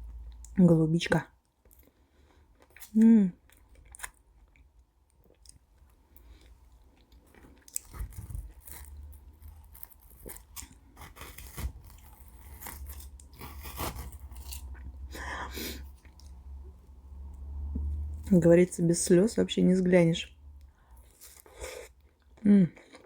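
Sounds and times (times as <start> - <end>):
chewing with soft crunches: 1.4 - 15.1, 15.9 - 18.3, 20.6 - 23.0.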